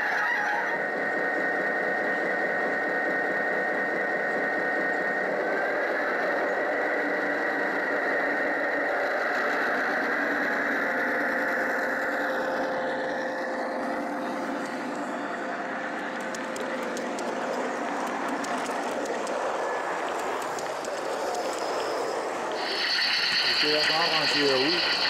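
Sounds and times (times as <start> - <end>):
model train humming: 0.0 - 25.0.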